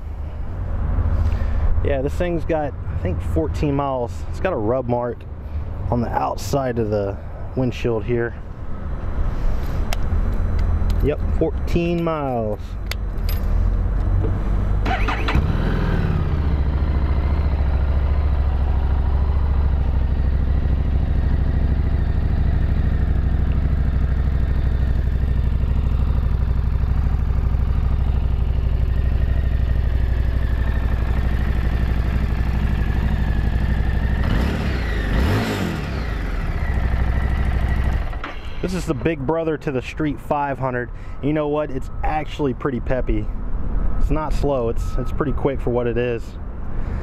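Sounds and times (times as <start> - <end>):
motorcycle engine idling and revving: 0.0 - 42.7.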